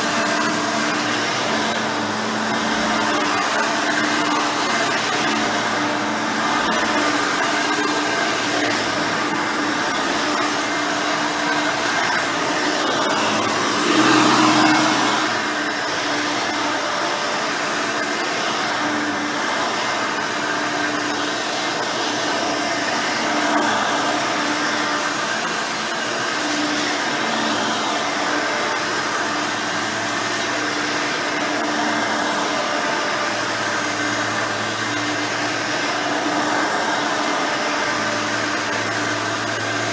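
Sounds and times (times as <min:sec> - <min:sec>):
upright vacuum running: 0:00.0 - 0:39.9.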